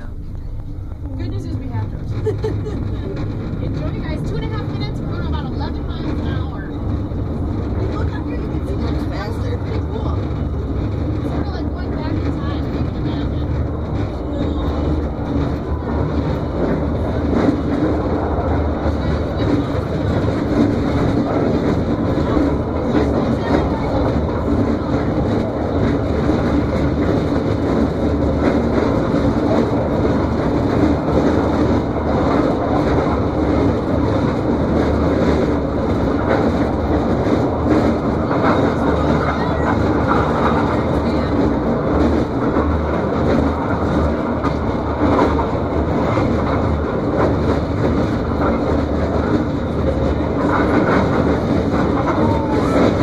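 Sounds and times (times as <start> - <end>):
hoist cage rumbling and rattling: 0.0 - 53.0.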